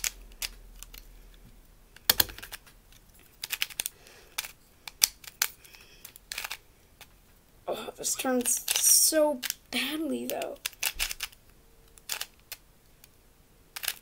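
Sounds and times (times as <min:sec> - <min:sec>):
puzzle cube clicking: 0:00.0 - 0:01.4, 0:02.0 - 0:07.2, 0:08.4 - 0:14.0.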